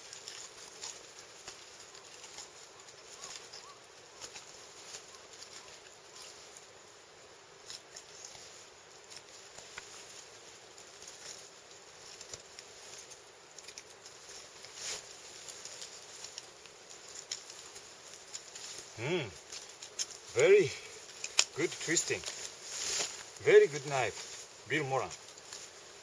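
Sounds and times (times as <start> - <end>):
faint crackles and clicks: 0.0 - 6.7, 7.6 - 20.3, 21.0 - 26.0.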